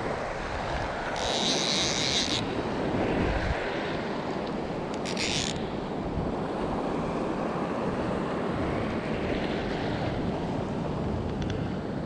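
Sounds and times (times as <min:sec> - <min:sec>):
small waves washing over sand: 0:00.0 - 0:12.0
wind rumbling on microphone: 0:00.0 - 0:12.0.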